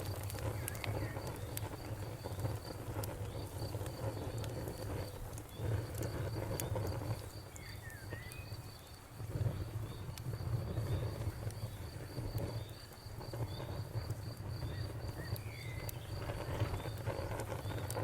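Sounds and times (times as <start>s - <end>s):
cricket chirping: 0.0s - 18.0s
faint campfire crackles: 0.0s - 18.0s.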